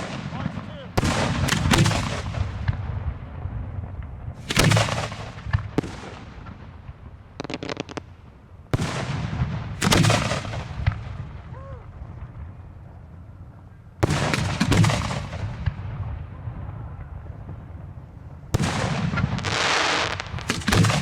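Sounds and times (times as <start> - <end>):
fireworks booms: 0.0 - 21.0
fireworks crackling: 0.0 - 21.0.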